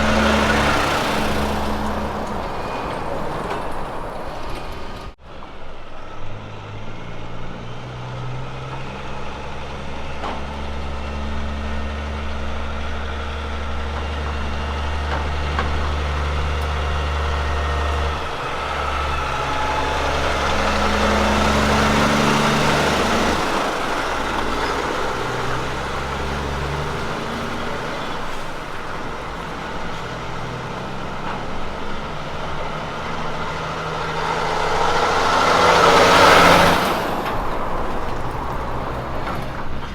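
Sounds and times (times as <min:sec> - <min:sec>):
road and tyre noise: 0:00.0 - 0:39.9
truck diesel engine changing gear: 0:00.0 - 0:39.9.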